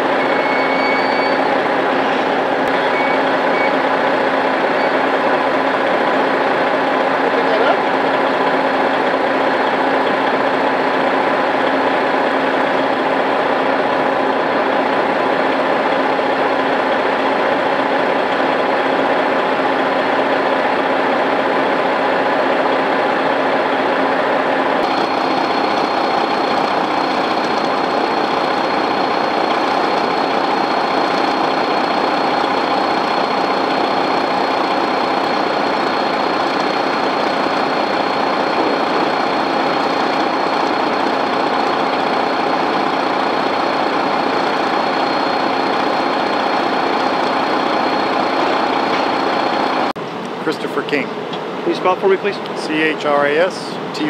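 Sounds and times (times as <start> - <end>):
diesel truck engines idling: 0.0 - 54.0.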